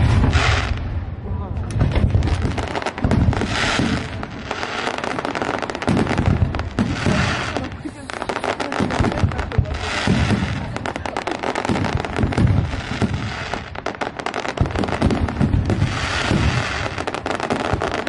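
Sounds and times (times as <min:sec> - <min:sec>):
fireworks crackling pops: 0:00.0 - 0:01.0, 0:01.6 - 0:18.0
fireworks booms: 0:00.0 - 0:18.0.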